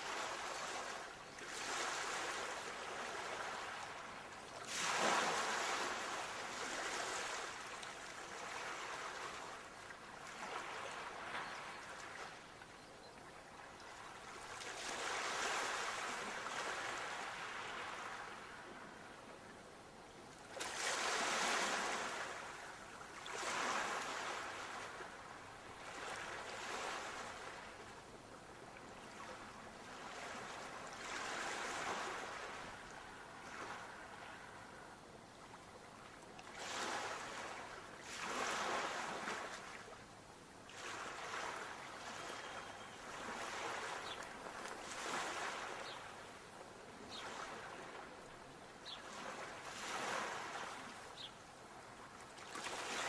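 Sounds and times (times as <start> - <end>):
sea waves breaking on shore: 0.0 - 12.6, 13.6 - 19.2, 20.3 - 53.0.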